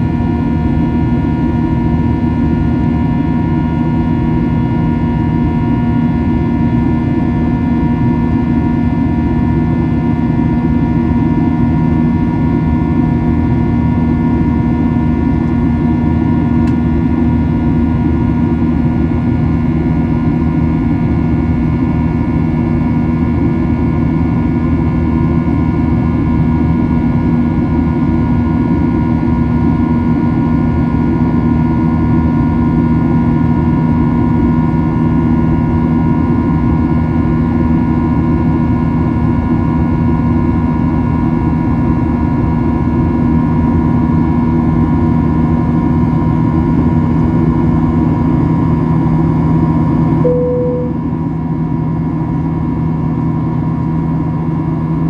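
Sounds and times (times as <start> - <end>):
jet engines droning in cabin: 0.0 - 51.1.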